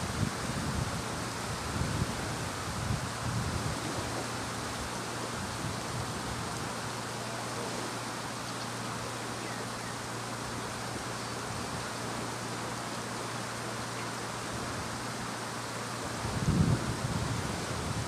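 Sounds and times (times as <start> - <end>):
steady hiss like rain: 0.0 - 18.0.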